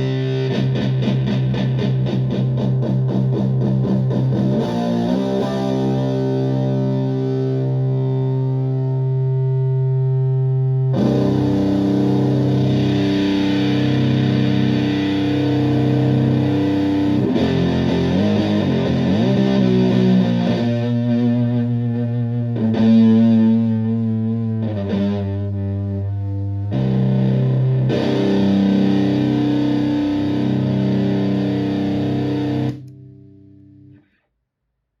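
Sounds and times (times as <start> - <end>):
distorted electric guitar chords: 0.0 - 34.0.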